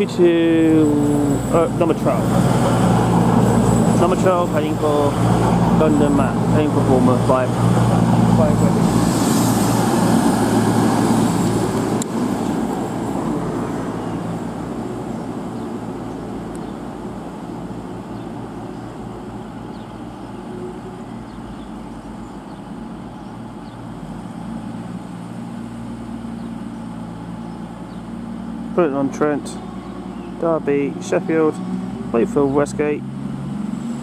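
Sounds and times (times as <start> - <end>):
diesel train engines humming: 0.0 - 34.0.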